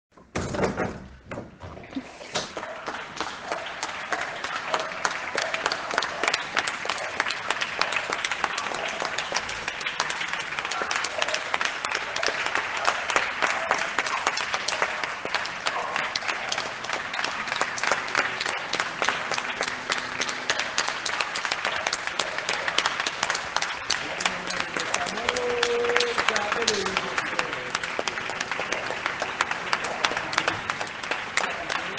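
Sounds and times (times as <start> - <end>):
audience applause: 1.9 - 31.9.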